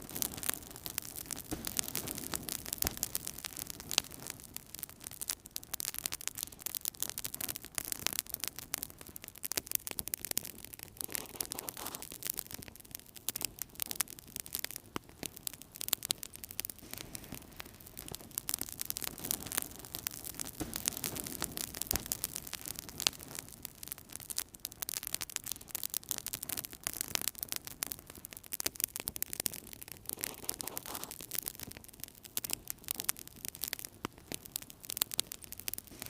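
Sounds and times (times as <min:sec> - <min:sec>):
low hiss of flames: 0:00.0 - 0:36.0
wood fire crackling and popping: 0:00.0 - 0:36.0.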